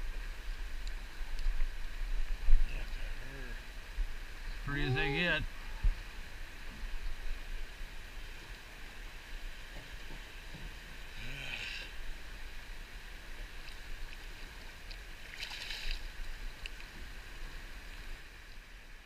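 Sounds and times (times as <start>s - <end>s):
river water lapping around boat: 0.0s - 19.0s
water splashes: 0.1s - 19.0s.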